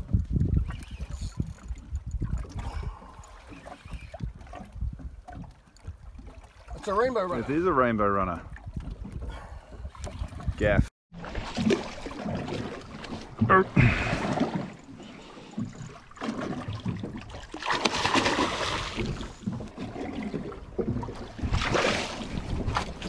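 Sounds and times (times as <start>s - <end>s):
water splashing against boat: 0.0s - 23.0s.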